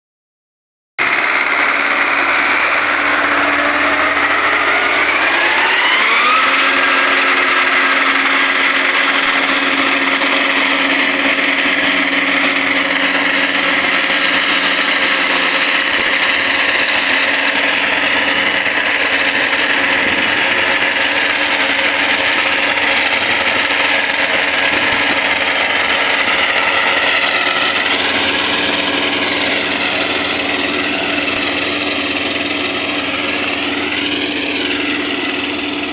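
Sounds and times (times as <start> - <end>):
motorised trimmer cutting canes: 1.0 - 35.9.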